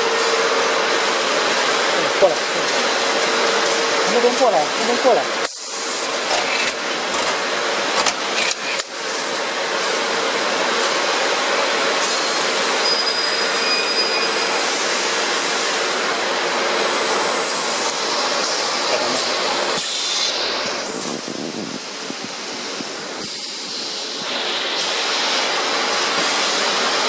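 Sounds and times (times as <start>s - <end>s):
production-line machinery running: 0.0s - 27.0s.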